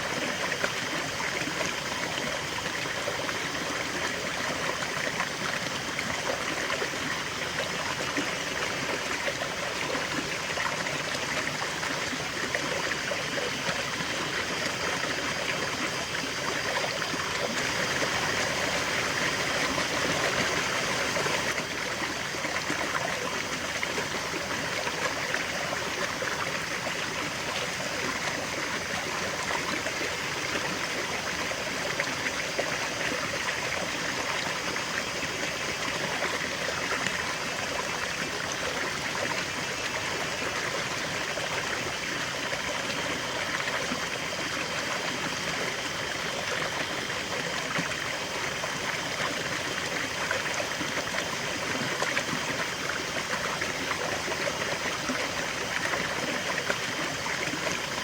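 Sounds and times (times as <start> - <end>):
stream flowing over stones: 0.0 - 58.0.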